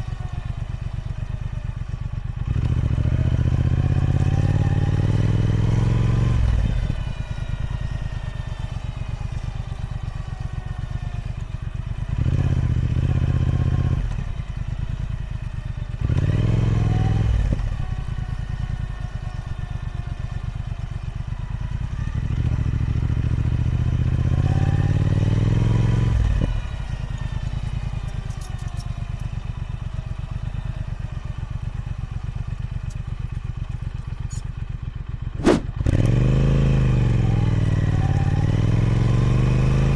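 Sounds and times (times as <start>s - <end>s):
motorcycle engine revving: 0.0s - 34.4s, 35.0s - 39.9s.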